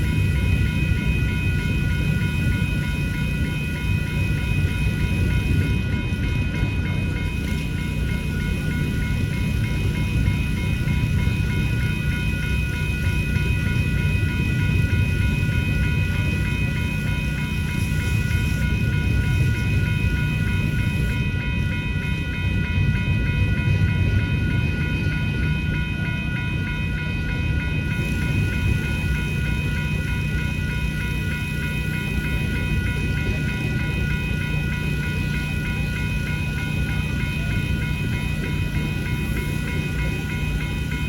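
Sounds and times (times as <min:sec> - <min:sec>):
freight train rumbling past: 0:00.0 - 0:41.0
railroad crossing bells ringing: 0:00.0 - 0:41.0.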